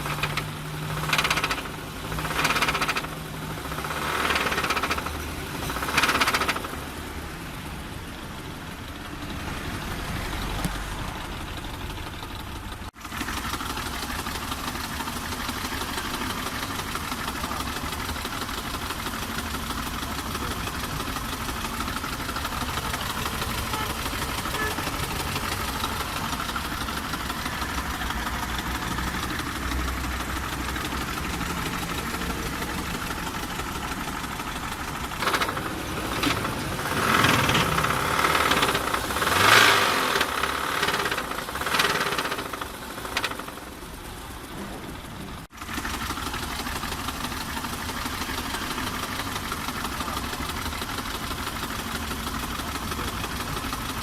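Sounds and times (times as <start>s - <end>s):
diesel engine idling with knocking: 0.0s - 54.0s.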